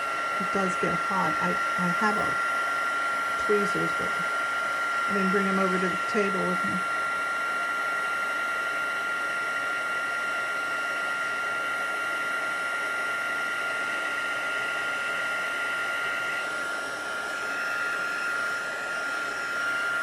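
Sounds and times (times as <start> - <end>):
heat gun blowing with whine: 0.0 - 20.0.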